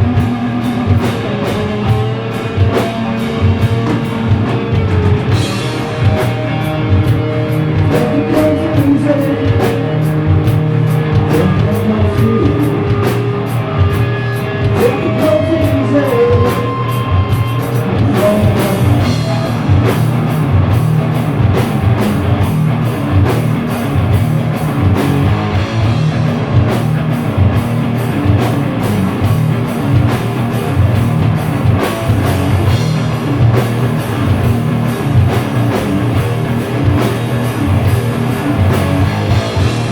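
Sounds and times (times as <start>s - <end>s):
guitar bending held notes: 0.0s - 39.9s
live metal band playing: 0.0s - 39.9s.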